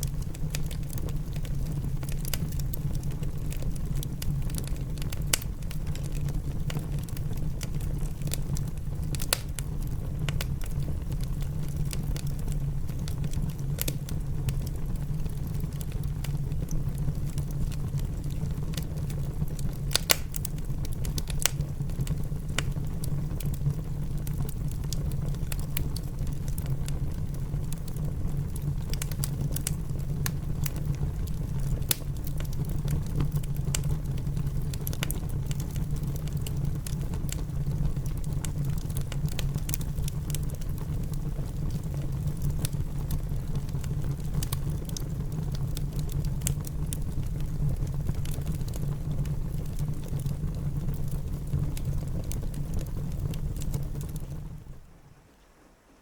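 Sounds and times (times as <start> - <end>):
wood fire crackling and popping: 0.0 - 54.9
rain rumbling: 0.0 - 56.0.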